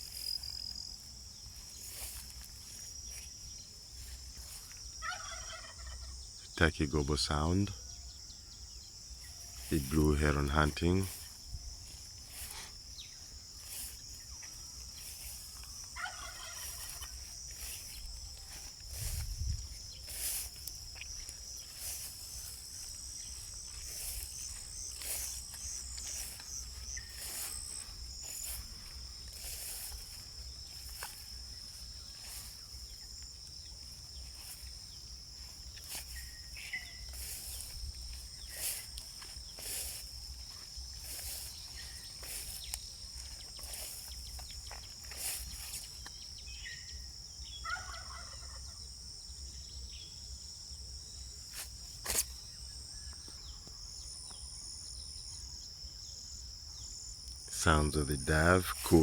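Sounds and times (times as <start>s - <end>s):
crickets and insects chirping: 0.0s - 59.0s.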